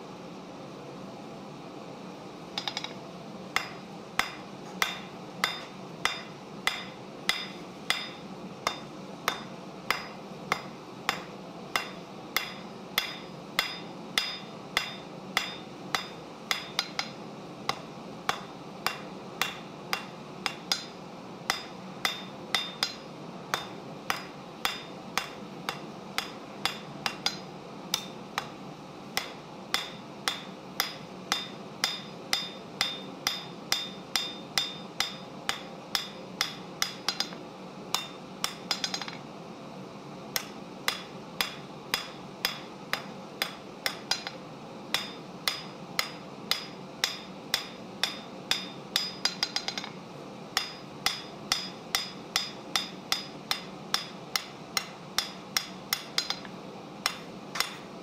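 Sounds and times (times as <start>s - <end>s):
steady low hum: 0.0s - 58.0s
hammer striking metal on anvil: 2.6s - 3.0s, 3.6s - 28.5s, 29.2s - 39.2s, 40.4s - 50.0s, 50.6s - 57.9s.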